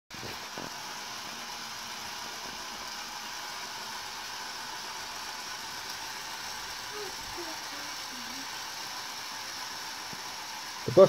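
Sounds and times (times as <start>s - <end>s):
toy train motor whirring: 0.1s - 11.0s.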